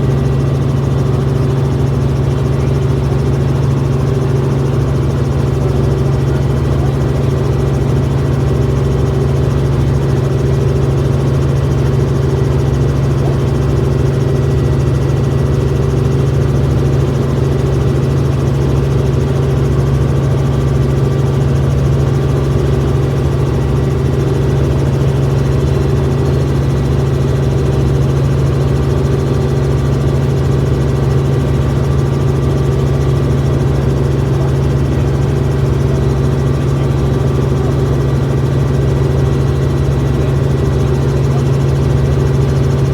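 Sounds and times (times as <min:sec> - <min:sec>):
helicopter engine and rotors droning: 0:00.0 - 0:42.9.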